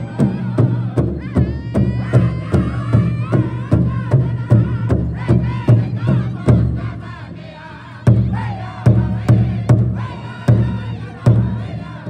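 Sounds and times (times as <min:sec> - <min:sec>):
large drum beaten with sticks: 0:00.0 - 0:07.1, 0:08.1 - 0:12.0
group singing together: 0:00.0 - 0:12.0.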